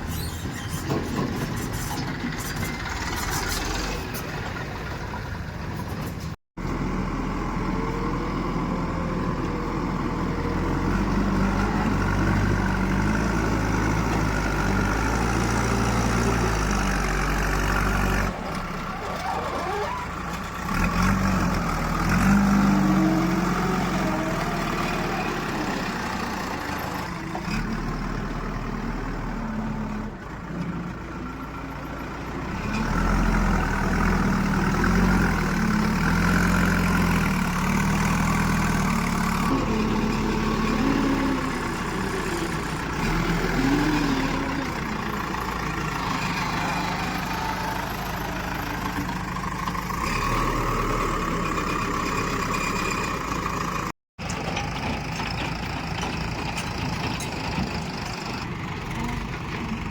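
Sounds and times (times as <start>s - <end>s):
heavy diesel engines revving: 0.0s - 59.9s.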